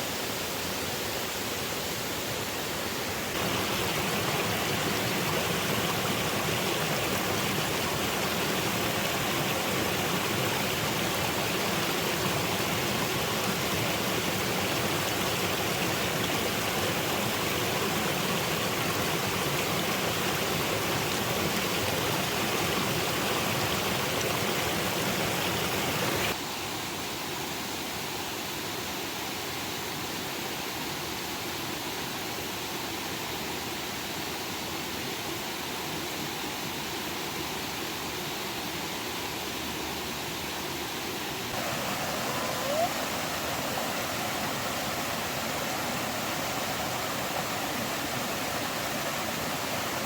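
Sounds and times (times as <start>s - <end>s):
rushing water: 0.0s - 26.5s, 31.9s - 50.0s.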